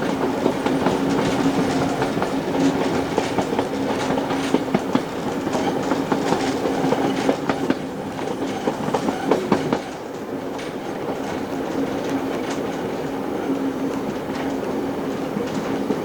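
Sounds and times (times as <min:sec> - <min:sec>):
train rolling rumble: 0:00.0 - 0:16.0
train wheels clicking over rail joints: 0:00.0 - 0:16.0.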